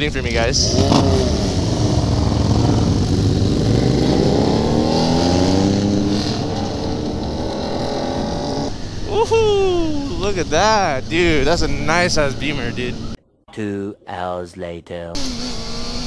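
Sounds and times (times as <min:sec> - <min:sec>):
motorcycle engines accelerating: 0:00.0 - 0:13.2.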